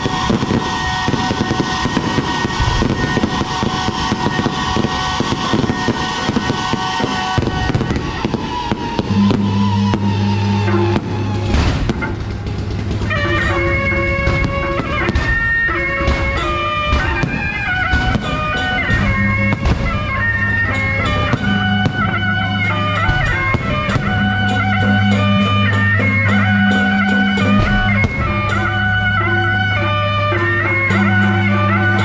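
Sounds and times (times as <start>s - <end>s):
low drone: 0.0s - 32.0s
reedy wind melody: 0.0s - 32.0s
sharp percussive hits: 0.0s - 32.0s.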